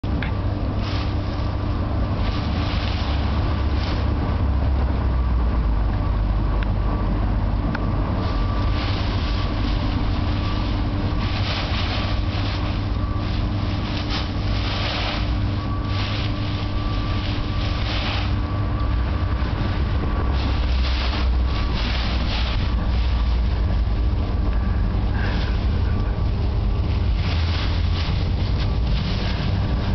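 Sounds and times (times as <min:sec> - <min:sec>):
dry leaves rustling: 0:00.0 - 0:05.5, 0:07.9 - 0:29.9
steady low rumble: 0:00.0 - 0:29.9.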